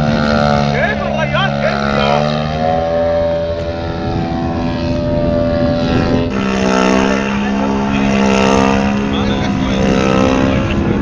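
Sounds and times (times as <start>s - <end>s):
model plane engines in flight: 0.0s - 11.0s.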